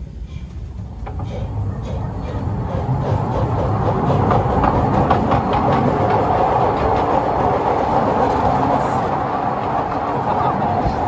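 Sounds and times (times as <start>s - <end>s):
miniature train rolling rumble: 0.0s - 11.0s
quick regular track clicks: 0.5s - 11.0s.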